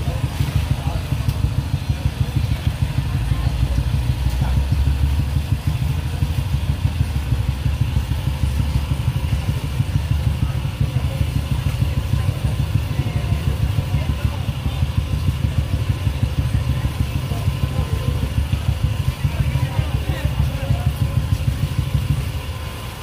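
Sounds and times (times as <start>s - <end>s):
low engine rumble: 0.0s - 23.0s.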